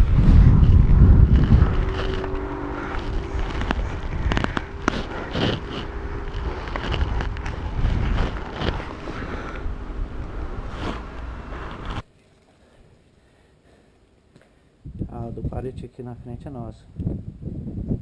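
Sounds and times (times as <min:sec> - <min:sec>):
wind buffeting microphone: 0:00.0 - 0:12.0, 0:14.8 - 0:18.0.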